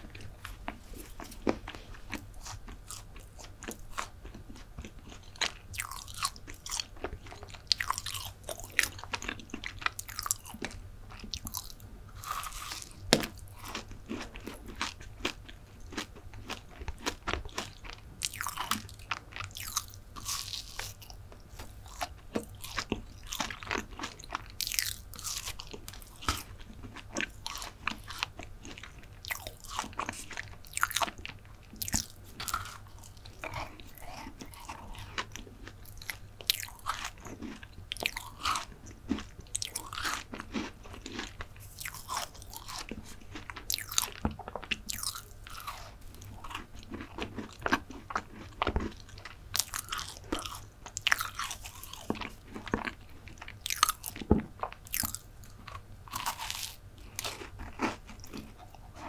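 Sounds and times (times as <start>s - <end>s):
chewing and biting brownie: 0.0s - 59.0s
faint low hum: 0.0s - 59.0s.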